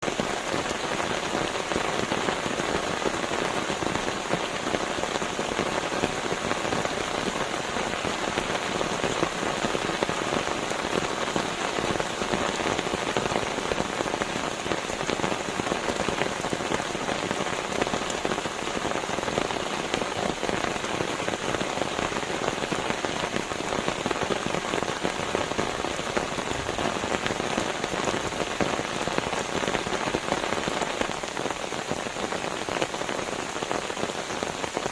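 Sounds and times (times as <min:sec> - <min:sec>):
rain falling on a surface: 0:00.0 - 0:34.9.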